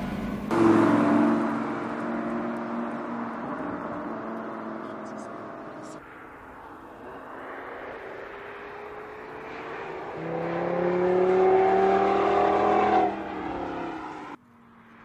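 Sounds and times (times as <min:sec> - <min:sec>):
car engine accelerating past: 0:00.0 - 0:06.0, 0:07.8 - 0:14.4.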